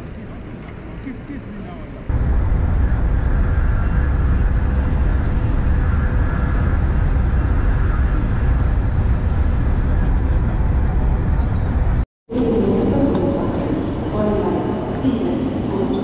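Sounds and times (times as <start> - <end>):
faint whine: 0.0 - 16.0
train rumble inside carriage: 2.0 - 16.0.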